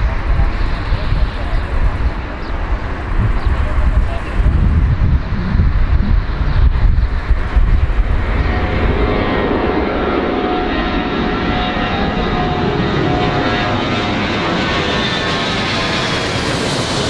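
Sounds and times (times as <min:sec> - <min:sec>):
airliner engines rushing and whining: 0:00.0 - 0:17.0.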